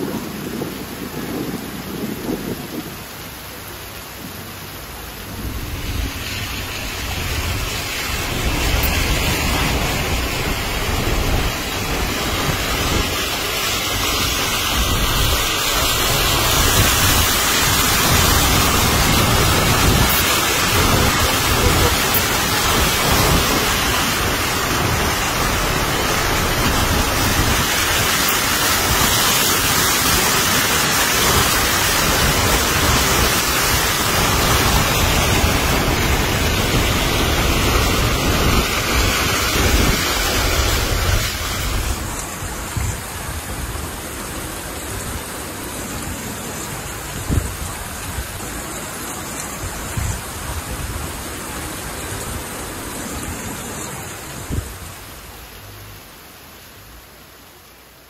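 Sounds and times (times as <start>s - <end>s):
car tyres splashing floodwater: 0.0s - 58.0s.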